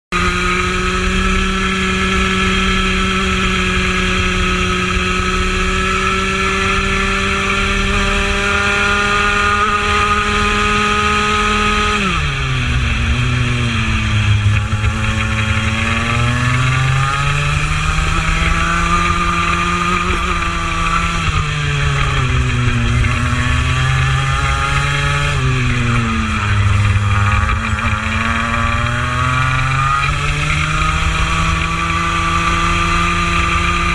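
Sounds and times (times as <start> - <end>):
kart engine at full throttle: 0.1 - 33.9.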